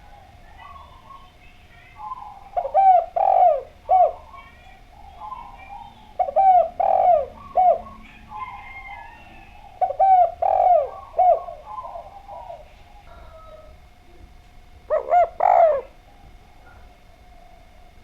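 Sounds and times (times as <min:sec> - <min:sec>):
dove cooing: 0:00.0 - 0:14.1, 0:14.7 - 0:18.0.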